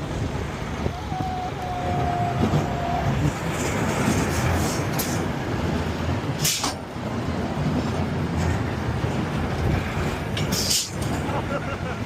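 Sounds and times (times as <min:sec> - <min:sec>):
amusement ride rumbling: 0:00.0 - 0:12.0.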